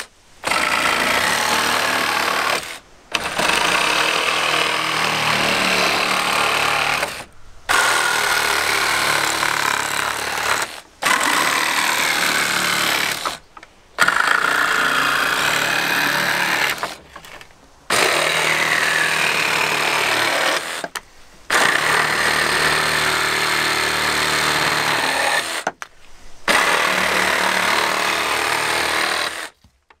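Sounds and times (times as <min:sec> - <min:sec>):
jigsaw sawing through wood: 0:00.0 - 0:13.4, 0:14.0 - 0:17.0, 0:17.9 - 0:25.8, 0:26.5 - 0:29.6.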